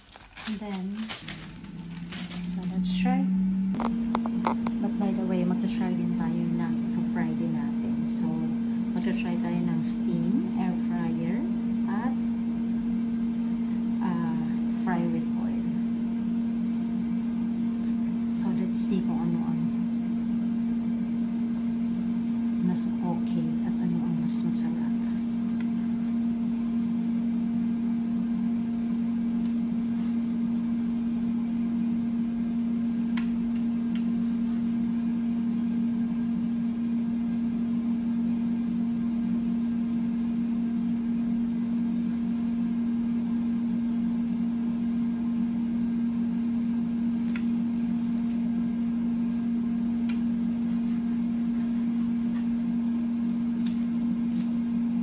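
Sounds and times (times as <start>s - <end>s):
kitchen appliance humming: 0.0s - 55.0s.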